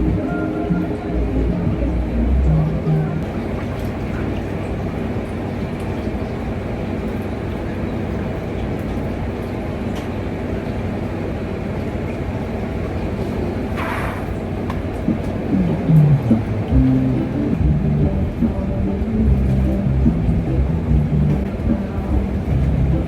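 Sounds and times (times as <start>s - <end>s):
machine drone with low hum: 0.0s - 23.0s.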